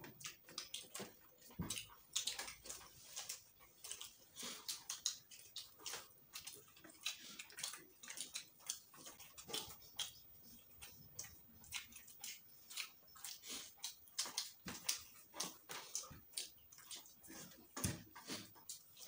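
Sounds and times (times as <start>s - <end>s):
people chewing and lip smacking: 0.0s - 19.0s.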